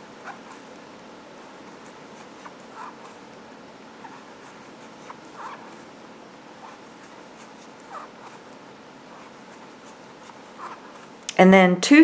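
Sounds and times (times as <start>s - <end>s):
crochet hook rubbing yarn: 0.0s - 11.2s
steady low hiss: 0.0s - 12.0s.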